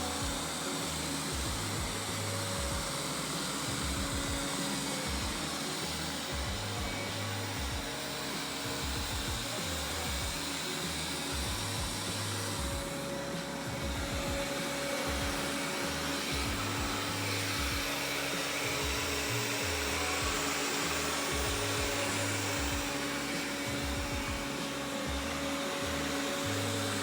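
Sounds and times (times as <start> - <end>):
background music: 0.0 - 27.0
robot vacuum whirring: 0.0 - 27.0.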